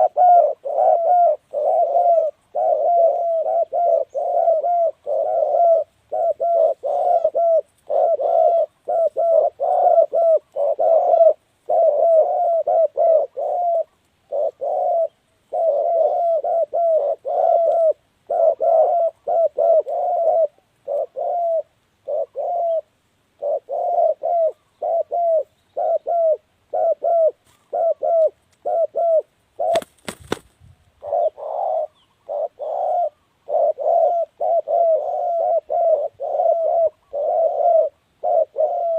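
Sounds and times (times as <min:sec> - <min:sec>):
doves cooing: 0:00.0 - 0:30.4, 0:31.0 - 0:38.9.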